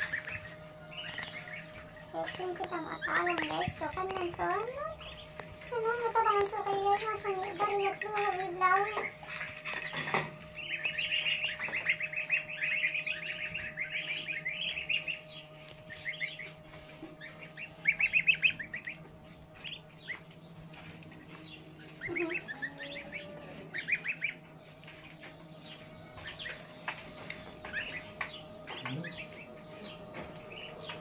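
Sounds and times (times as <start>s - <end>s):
ducklings peeping: 0.0s - 31.0s.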